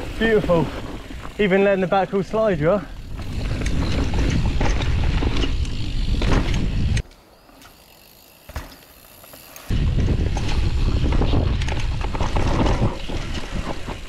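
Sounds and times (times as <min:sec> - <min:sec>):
bike knocking and rattling: 0:00.0 - 0:14.0
bike riding rumble: 0:00.0 - 0:14.0.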